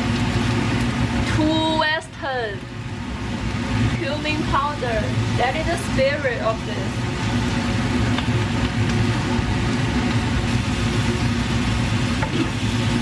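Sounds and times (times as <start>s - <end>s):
hiss of cooking in a pan: 0.0s - 13.0s
steady mechanical hum: 0.0s - 13.0s.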